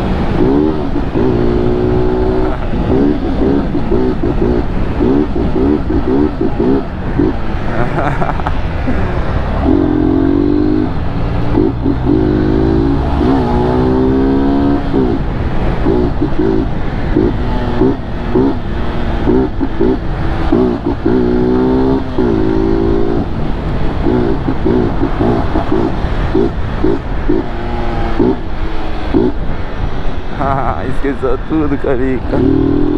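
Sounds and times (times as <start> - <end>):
motorcycle engine revving: 0.0 - 32.9
motorcycle throttle blips: 0.0 - 32.9.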